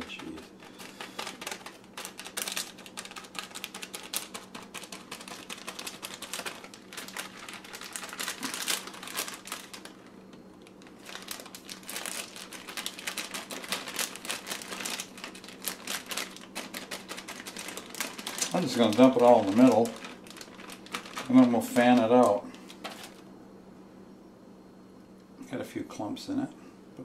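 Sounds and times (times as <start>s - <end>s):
plastic bag crinkling: 0.0s - 23.2s.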